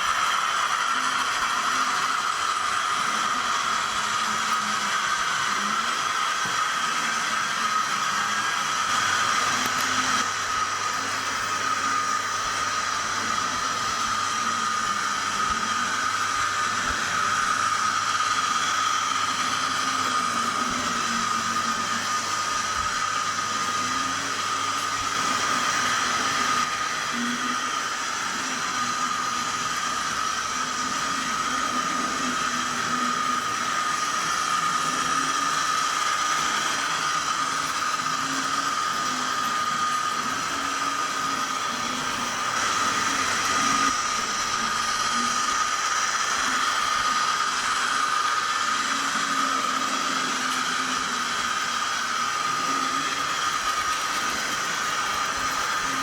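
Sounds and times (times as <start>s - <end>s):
hiss: 0.0s - 56.0s
model locomotive engine hum: 0.0s - 56.0s.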